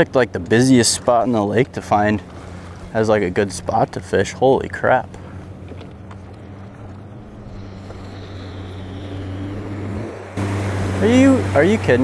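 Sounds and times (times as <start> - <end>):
jet ski engine drone: 0.0 - 12.0.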